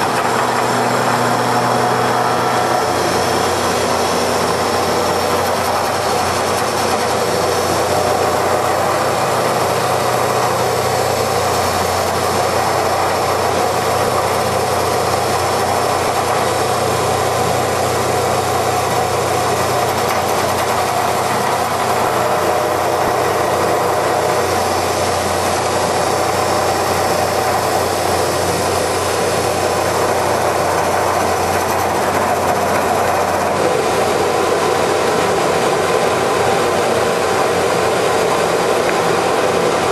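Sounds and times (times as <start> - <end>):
lathe running with constant hum: 0.0 - 39.9.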